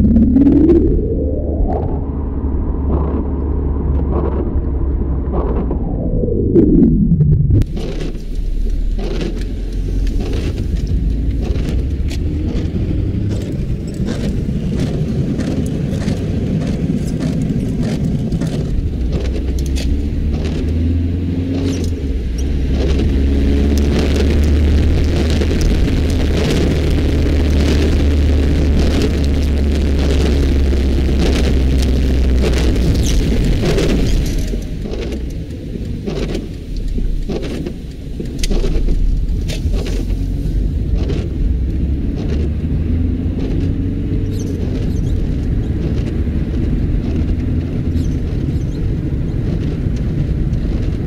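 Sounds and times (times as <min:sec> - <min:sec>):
car engine and road noise: 0:00.0 - 0:51.0.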